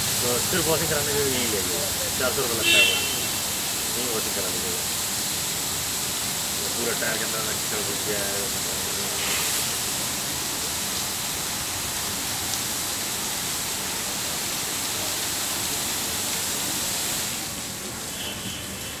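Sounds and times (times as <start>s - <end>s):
car wash water spray hissing: 0.0s - 19.0s.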